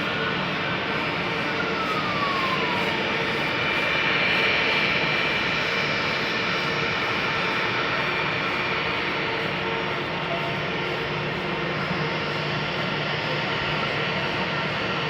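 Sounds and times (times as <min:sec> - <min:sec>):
jet engines whining rumble: 0:00.0 - 0:15.0.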